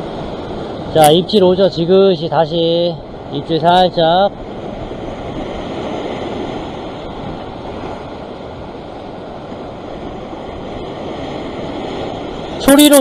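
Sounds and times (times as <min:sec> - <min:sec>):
ocean surf breaking over rocks: 0:00.0 - 0:13.0.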